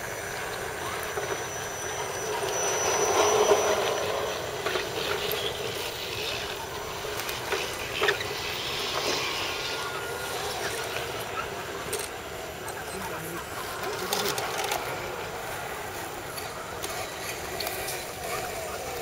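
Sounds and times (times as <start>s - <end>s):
toy truck motors whirring: 0.0s - 19.0s.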